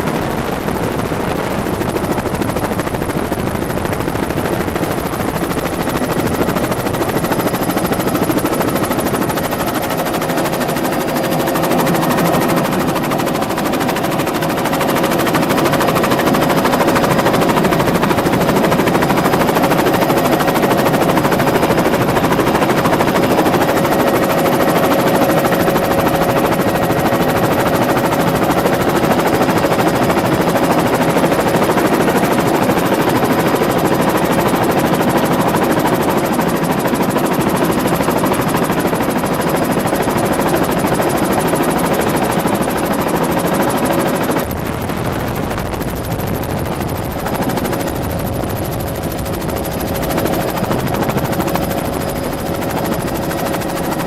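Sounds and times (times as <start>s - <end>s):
helicopter in flight: 0.0s - 54.0s.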